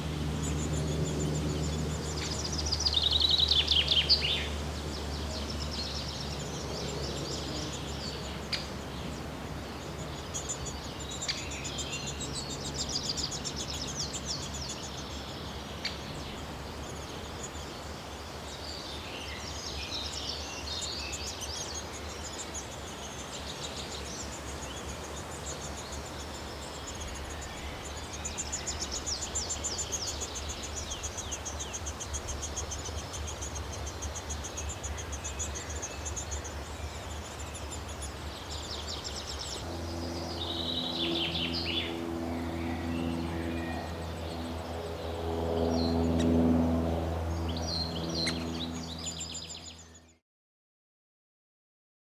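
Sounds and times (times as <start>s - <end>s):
low multi-tone hum: 0.0s - 49.9s.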